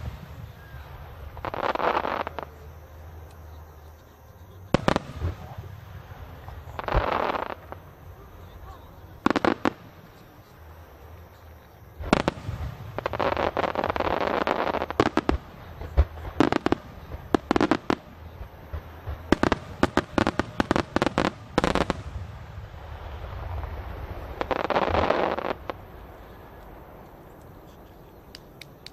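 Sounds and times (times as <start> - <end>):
fireworks hiss: 0.0 - 3.5, 4.7 - 28.9
fireworks booming: 0.0 - 28.9.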